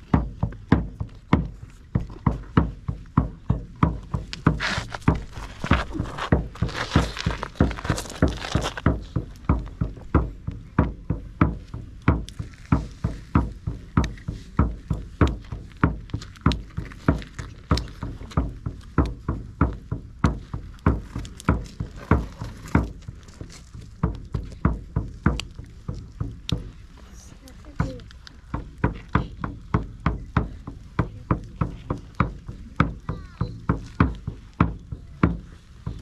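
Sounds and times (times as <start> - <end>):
drum beaten in steady rhythm: 0.0 - 36.0.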